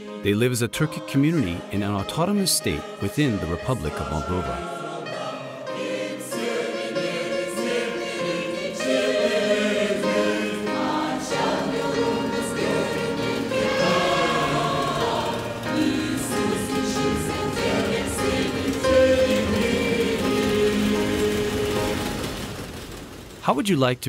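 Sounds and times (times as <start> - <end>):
choir singing held chords: 0.0 - 22.9.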